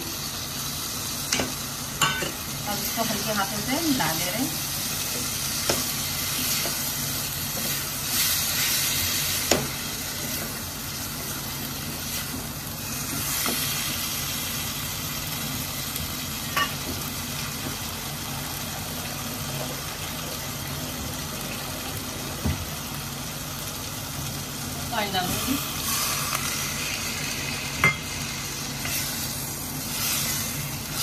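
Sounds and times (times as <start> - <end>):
food sizzling in a steel pan: 0.0 - 31.0.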